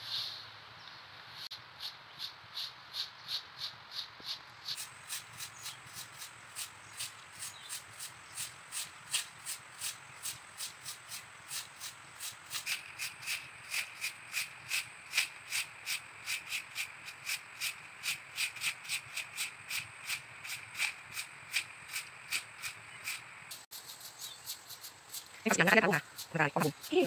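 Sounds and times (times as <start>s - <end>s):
broom sweeping leaves on asphalt: 0.0s - 27.0s.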